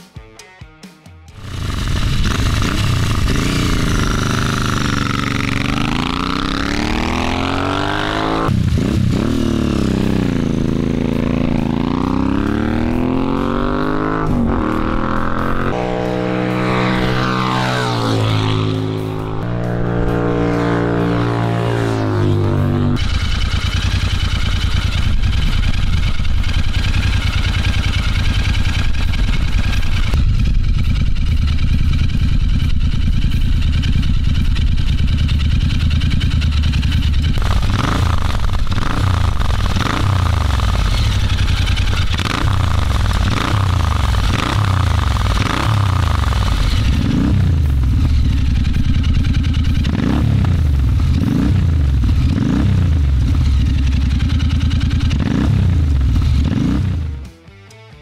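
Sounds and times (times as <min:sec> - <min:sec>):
motorcycle revving: 0:01.3 - 0:57.4
motorcycle idling: 0:01.4 - 0:15.6, 0:18.2 - 0:57.3
motorcycle passing by: 0:01.4 - 0:57.2.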